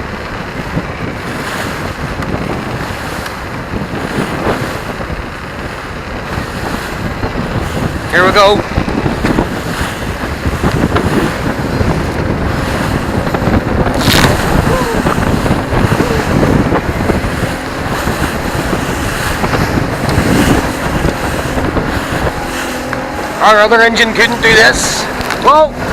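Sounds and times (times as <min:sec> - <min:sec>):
motorboat engine running: 0:00.0 - 0:25.9
water slapping against hull: 0:00.0 - 0:25.9
wind buffeting microphone: 0:00.0 - 0:25.9.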